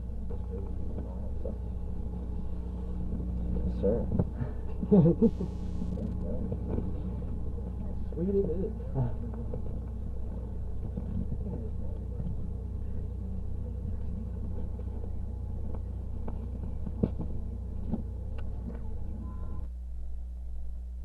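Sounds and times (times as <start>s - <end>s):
faint murmur: 0.0s - 21.0s
low hum and rumble: 0.0s - 21.0s.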